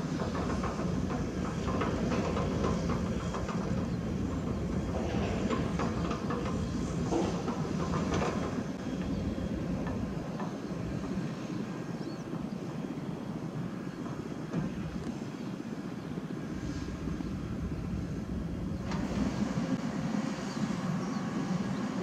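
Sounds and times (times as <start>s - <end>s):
diesel engines droning: 0.0s - 22.0s.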